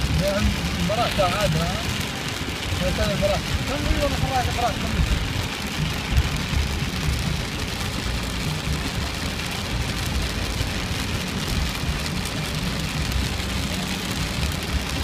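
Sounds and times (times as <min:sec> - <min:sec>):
heavy rain hissing: 0:00.0 - 0:15.0
low rumble: 0:00.0 - 0:15.0.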